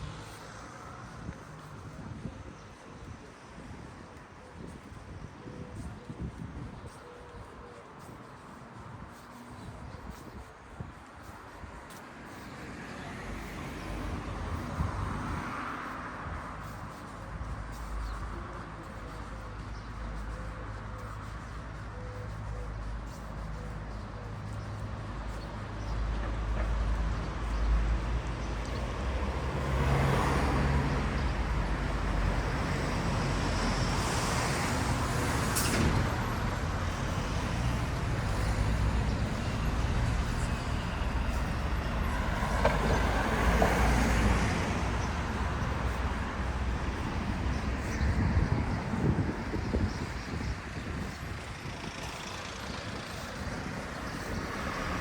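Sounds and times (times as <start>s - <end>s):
motor vehicles passing close by: 5.4s - 55.0s.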